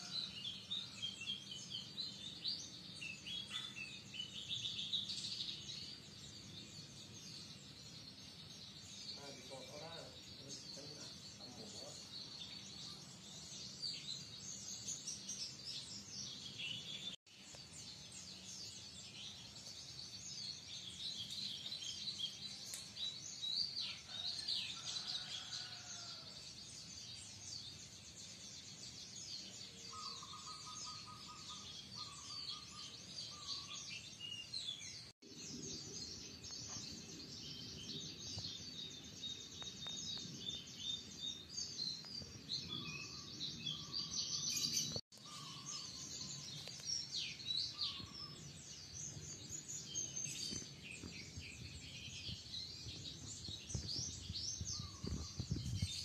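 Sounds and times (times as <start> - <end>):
low outdoor background noise: 0.0 - 55.6
small birds chirping: 0.0 - 56.0.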